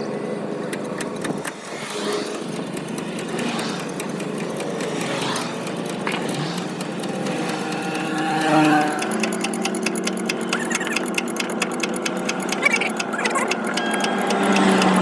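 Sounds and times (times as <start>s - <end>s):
road traffic passing: 0.0s - 15.0s
faint clicking: 0.7s - 15.0s.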